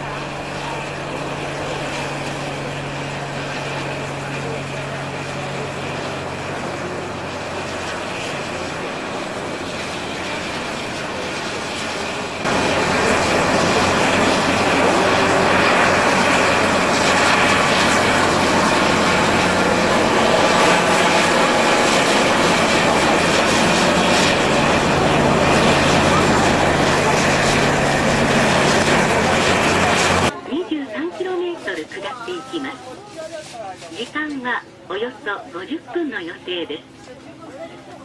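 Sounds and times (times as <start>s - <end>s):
large engine running: 0.0s - 30.4s
broad rushing noise: 0.0s - 37.4s.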